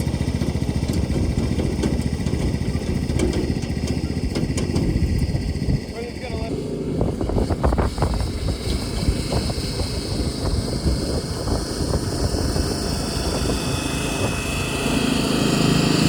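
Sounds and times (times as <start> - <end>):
small tractor engine running: 0.0 - 16.0.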